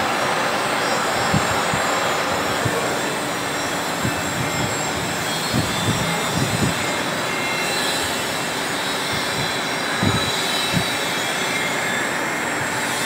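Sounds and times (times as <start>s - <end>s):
drill cutting steel: 0.0s - 13.0s.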